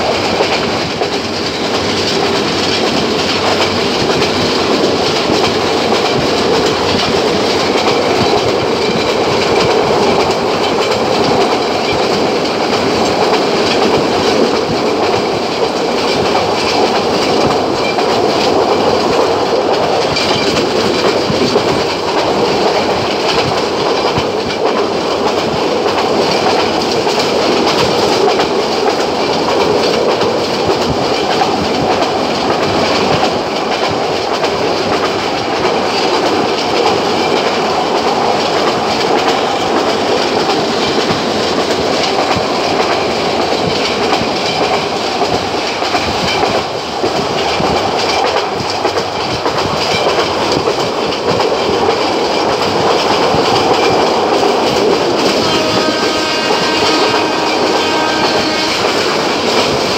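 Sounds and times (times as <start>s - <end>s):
train wheels rumbling on rails: 0.0s - 59.9s
wheels clicking over rail joints: 0.0s - 59.9s.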